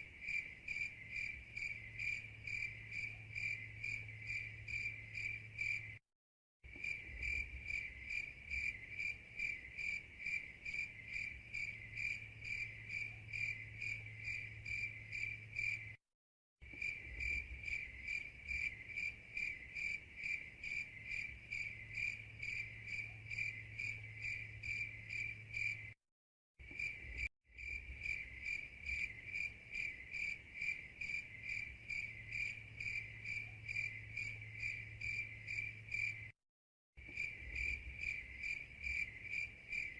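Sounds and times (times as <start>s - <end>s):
crickets chirping: 0.0s - 6.0s, 6.7s - 16.0s, 16.6s - 26.0s, 26.6s - 36.3s, 37.0s - 39.9s.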